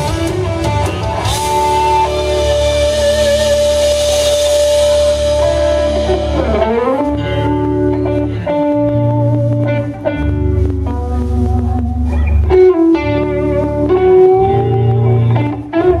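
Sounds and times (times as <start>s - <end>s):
bass guitar: 0.0s - 16.0s
drums: 0.0s - 16.0s
electric guitar lead notes: 0.0s - 16.0s.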